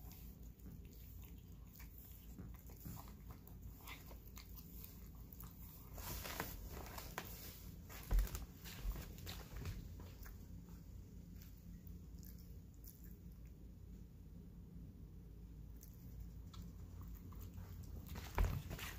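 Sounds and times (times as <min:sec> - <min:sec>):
cat licking and chewing: 0:00.0 - 0:13.7, 0:15.7 - 0:18.9.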